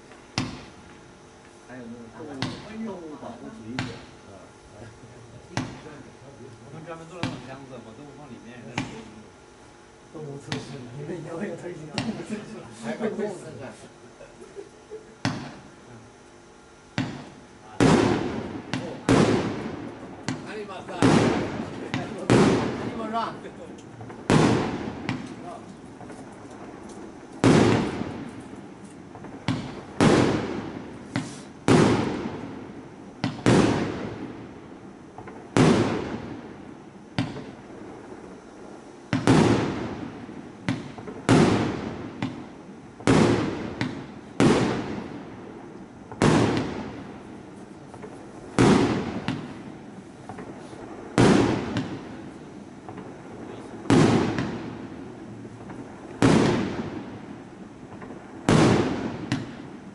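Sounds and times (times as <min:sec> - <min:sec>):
fireworks reports: 0:01.6 - 0:16.2, 0:16.8 - 0:59.9.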